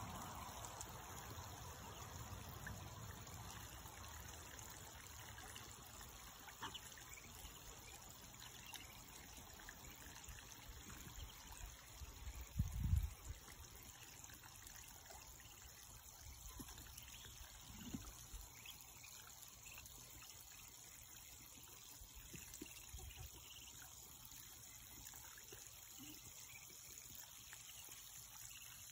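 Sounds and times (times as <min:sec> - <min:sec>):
shallow water trickling and splashing: 0:00.0 - 0:28.9.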